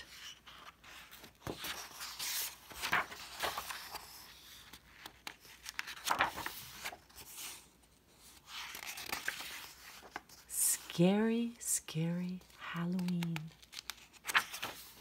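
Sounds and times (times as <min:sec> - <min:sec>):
book pages turning: 0:00.0 - 0:11.6, 0:12.2 - 0:15.0.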